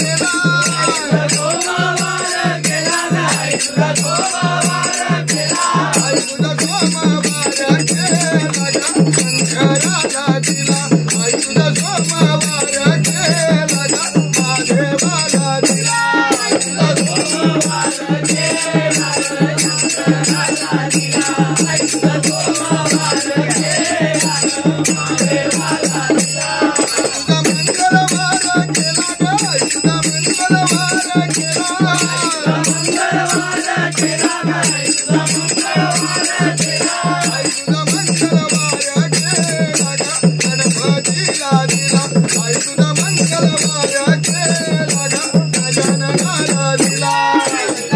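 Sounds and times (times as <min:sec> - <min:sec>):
hand drum beat: 0:00.0 - 0:47.9
jingling rattle percussion: 0:00.0 - 0:47.9
men singing together: 0:00.0 - 0:47.9.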